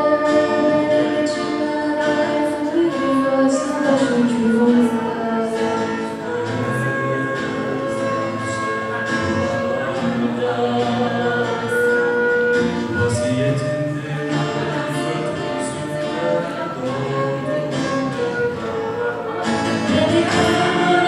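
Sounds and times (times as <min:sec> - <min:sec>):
instrumental backing music: 0:00.0 - 0:21.0
person singing: 0:00.0 - 0:21.0.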